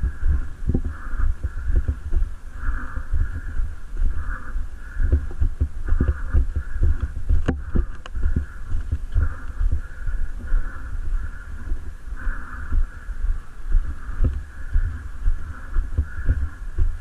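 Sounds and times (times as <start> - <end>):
camera microphone thumping: 0.0 - 10.8, 13.8 - 17.0.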